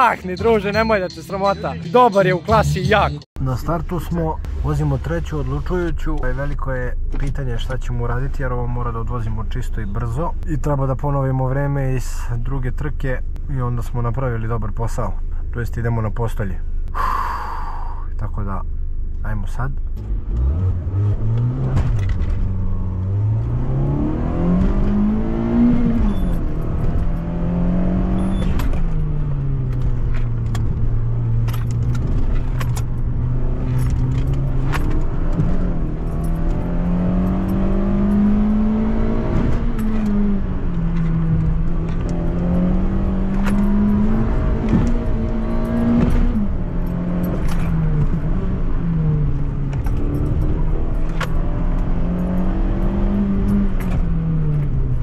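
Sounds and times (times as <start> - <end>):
car engine revving: 0.0 - 11.6, 18.6 - 55.0.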